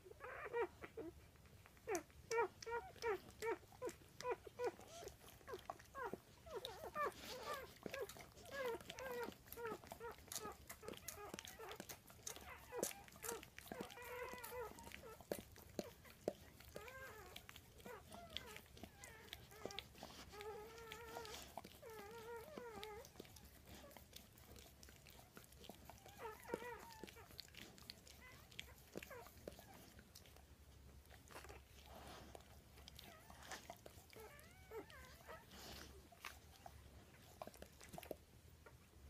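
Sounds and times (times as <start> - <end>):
puppies squeaking and whining: 0.0 - 30.4, 31.0 - 38.8
puppies nursing wet smacking: 0.1 - 39.0.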